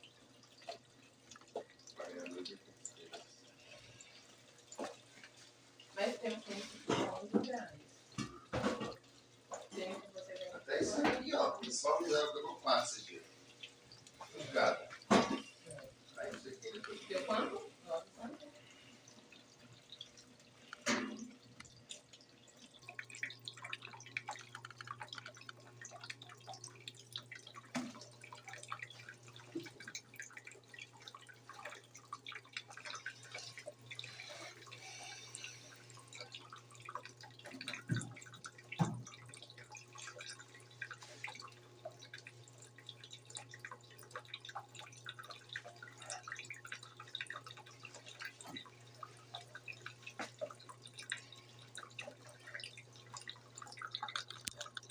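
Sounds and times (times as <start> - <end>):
washing machine hum: 0.0 - 54.9
water splashing in washing machine: 0.0 - 54.9.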